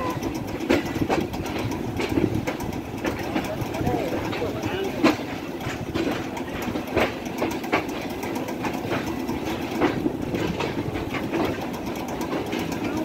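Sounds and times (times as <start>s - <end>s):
train rumbling: 0.0s - 13.0s
wheels clacking over rail joints: 0.0s - 13.0s.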